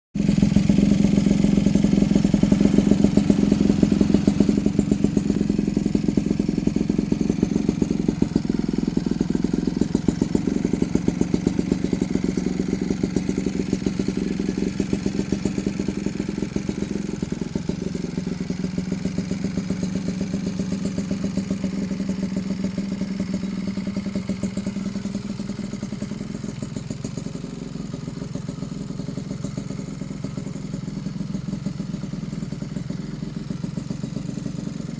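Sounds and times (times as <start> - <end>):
moped engine idling: 0.1 - 34.9.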